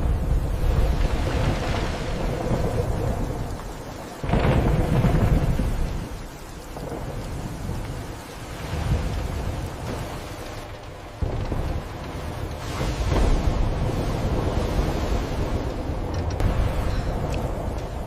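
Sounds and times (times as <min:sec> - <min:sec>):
deep rumbling roar of sea: 0:00.0 - 0:18.0
rain-like hiss: 0:00.0 - 0:18.0.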